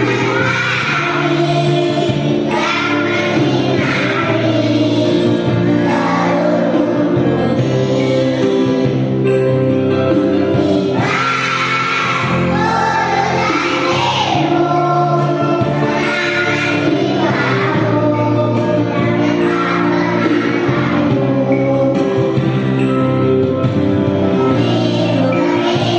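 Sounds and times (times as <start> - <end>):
group of voices singing: 0.0 - 9.2, 10.4 - 22.2, 24.4 - 25.9
backing music: 0.0 - 25.9.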